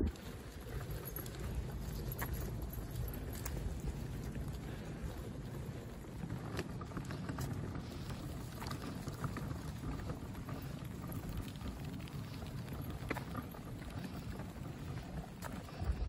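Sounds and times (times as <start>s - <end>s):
low rumble: 0.0s - 13.2s
footsteps on asphalt: 0.0s - 16.0s.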